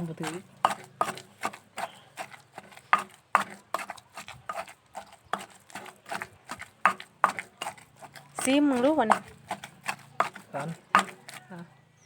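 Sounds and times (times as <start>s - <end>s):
pestle pounding in a mortar: 0.0s - 11.5s.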